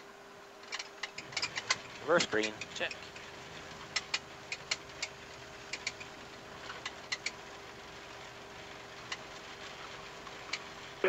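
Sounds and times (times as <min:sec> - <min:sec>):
constant hum: 0:00.0 - 0:11.0
aircraft cockpit noise: 0:00.1 - 0:11.0
sharp clicks and rattles: 0:00.6 - 0:07.8, 0:08.9 - 0:10.9.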